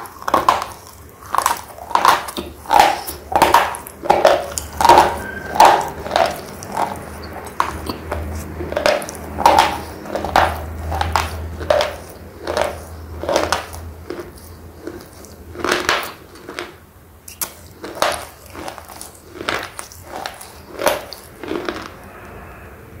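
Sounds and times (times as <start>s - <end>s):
slate pencil being chewed: 0.0s - 22.0s.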